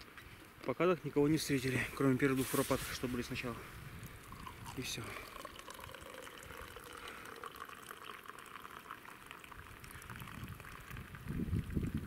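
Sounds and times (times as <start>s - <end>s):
tea pouring trickle: 1.9s - 12.0s.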